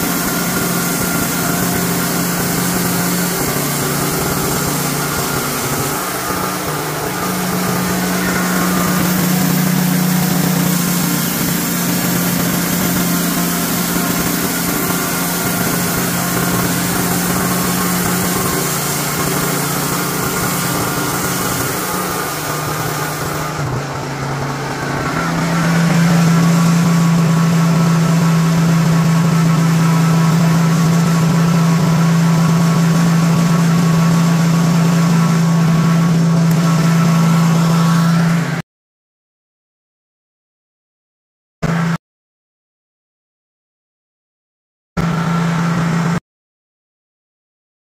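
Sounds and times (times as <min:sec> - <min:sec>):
gas engine running steadily: 0:00.0 - 0:38.6, 0:45.0 - 0:46.2.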